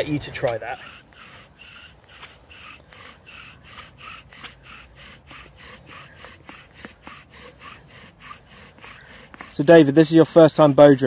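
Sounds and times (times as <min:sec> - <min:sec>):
bow drill spindle grinding: 0:00.0 - 0:11.0.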